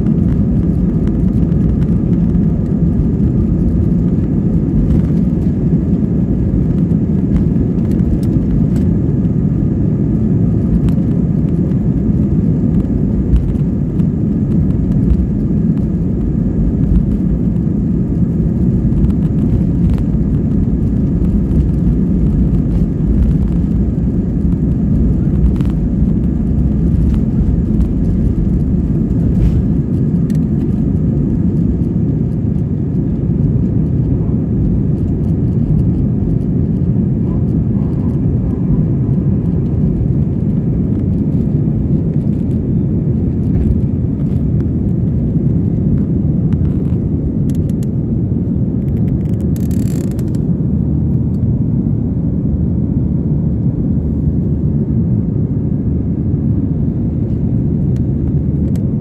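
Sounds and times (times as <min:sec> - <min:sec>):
airflow noise: 0:00.0 - 0:48.4
jet engines rumbling in cabin: 0:00.0 - 0:59.0.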